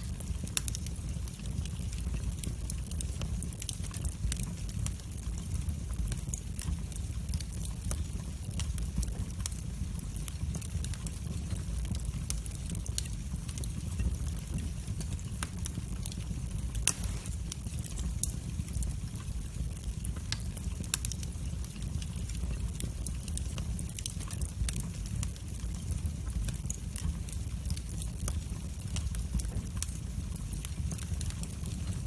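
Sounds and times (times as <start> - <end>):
fire flames rumbling: 0.0 - 32.0
wood fire popping and snapping: 0.0 - 32.0.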